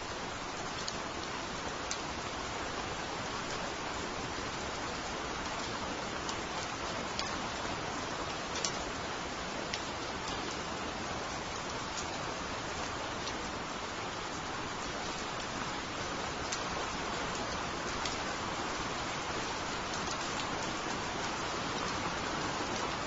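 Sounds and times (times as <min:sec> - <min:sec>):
steady rain on trees: 0:00.0 - 0:23.0.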